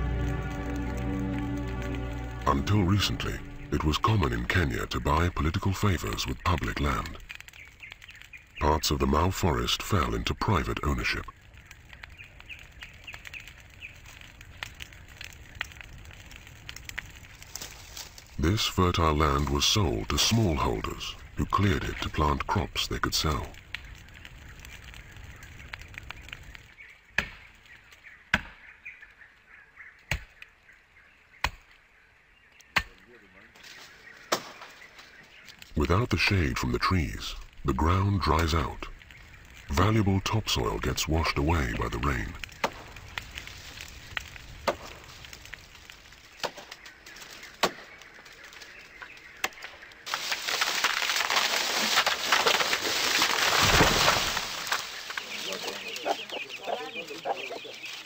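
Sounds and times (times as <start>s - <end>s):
dense crackling rush: 0.0s - 58.0s
wood cracking and knocking: 0.1s - 29.1s, 32.6s - 36.8s, 37.4s - 58.0s.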